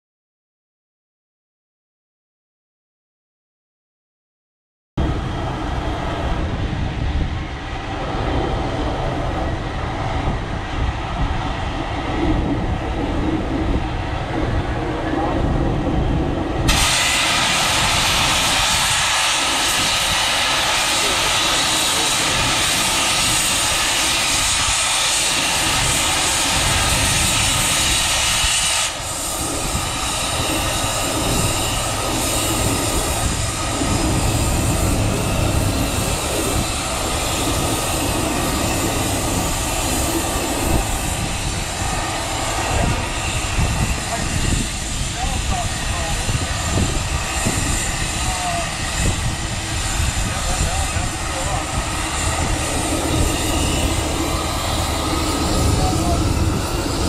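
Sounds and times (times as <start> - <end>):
steam traction engine running: 11.2 - 57.0.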